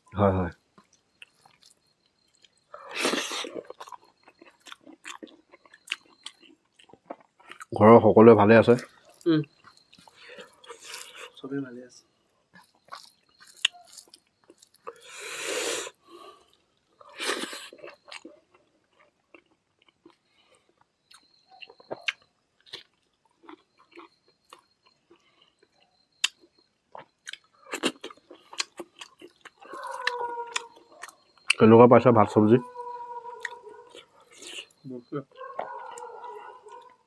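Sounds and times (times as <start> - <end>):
chewing and lip smacks: 0.7 - 7.7, 8.7 - 11.4, 12.5 - 15.2, 15.9 - 31.7, 32.6 - 37.0.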